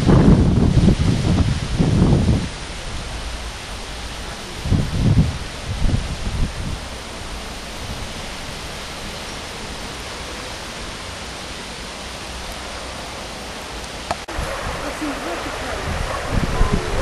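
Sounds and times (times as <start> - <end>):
low rumbles: 0.0 - 17.0
outdoor background hiss: 0.0 - 17.0.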